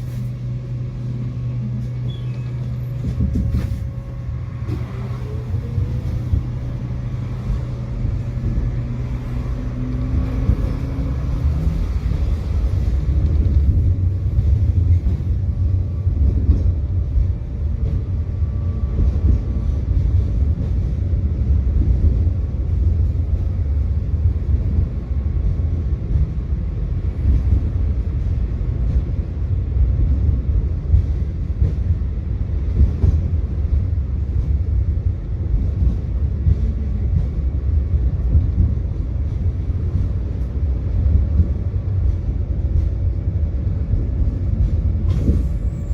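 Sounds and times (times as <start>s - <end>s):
tram wheels rumbling on rails: 0.0s - 45.9s.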